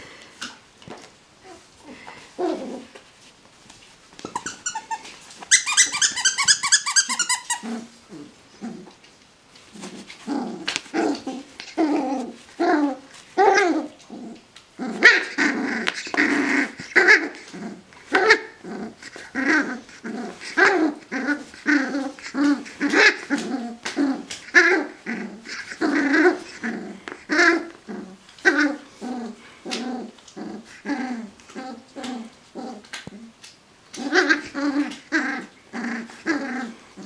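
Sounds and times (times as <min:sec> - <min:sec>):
puppy play-growling: 0:00.4 - 0:03.1, 0:04.2 - 0:37.0.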